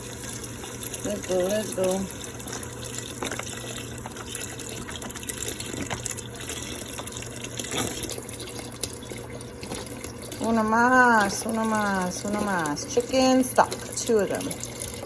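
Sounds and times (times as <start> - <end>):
liquid pouring into a pot: 0.0 - 15.0.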